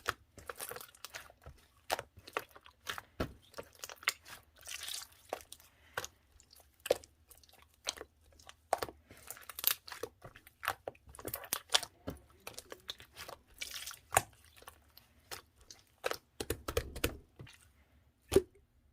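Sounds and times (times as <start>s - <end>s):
wet slime squishes: 0.0s - 18.9s.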